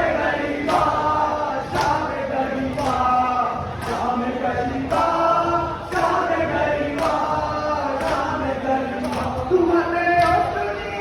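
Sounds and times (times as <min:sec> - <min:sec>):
chant-like sung vocals: 0:00.0 - 0:11.0
steady beat: 0:00.0 - 0:11.0.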